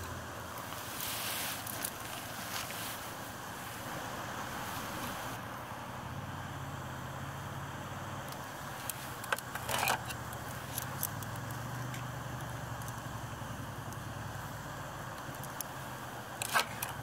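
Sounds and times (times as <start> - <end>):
steady low hum and hiss: 0.0 - 17.0.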